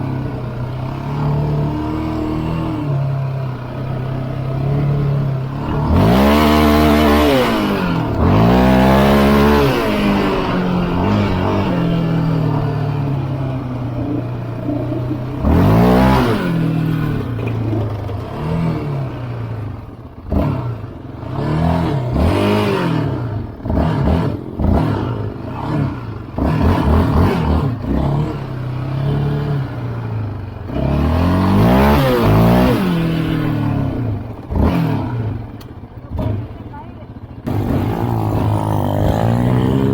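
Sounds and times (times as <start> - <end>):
atv engine idling and revving: 0.0 - 39.9.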